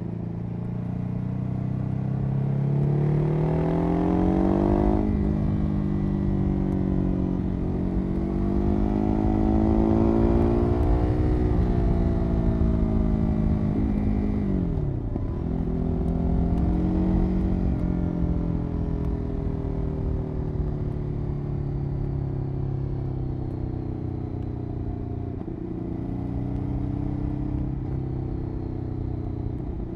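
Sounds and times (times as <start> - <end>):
motorcycle engine revving: 1.4 - 29.9.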